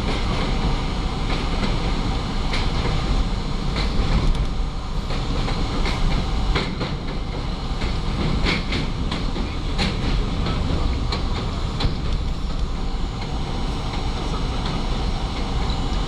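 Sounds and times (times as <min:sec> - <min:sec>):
subway train rumbling: 0:00.0 - 0:16.0
wheels clicking over rail joints: 0:01.3 - 0:16.0.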